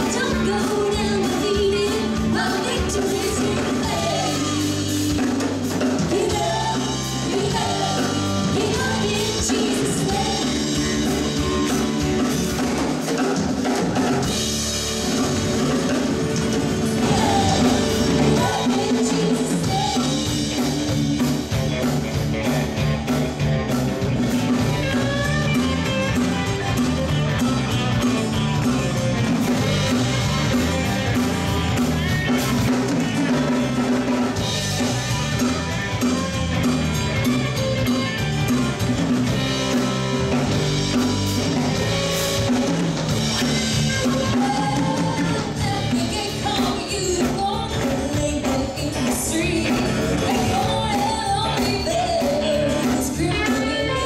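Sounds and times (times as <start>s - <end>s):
drum kit beat: 0.0s - 54.0s
live gospel band music: 0.0s - 54.0s.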